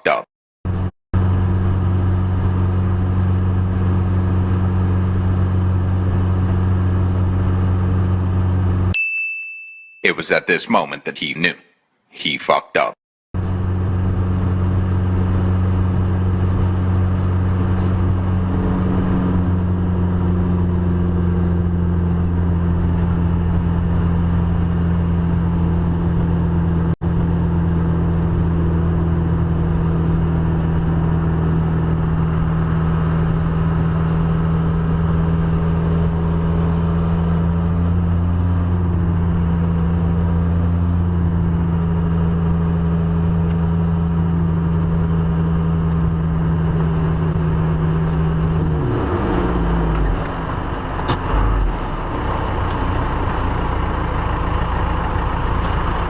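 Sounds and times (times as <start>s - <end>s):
vehicle engine and road noise: 0.1s - 9.0s, 13.4s - 56.0s.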